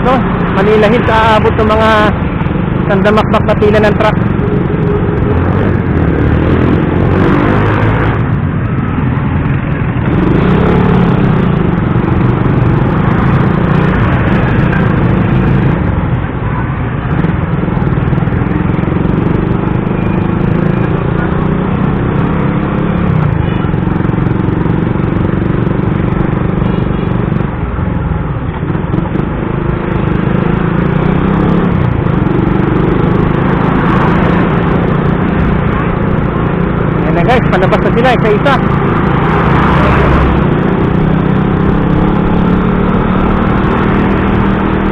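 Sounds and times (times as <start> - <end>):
motorcycle engine running: 0.0 - 27.7, 28.5 - 44.9
road traffic noise: 0.0 - 44.9.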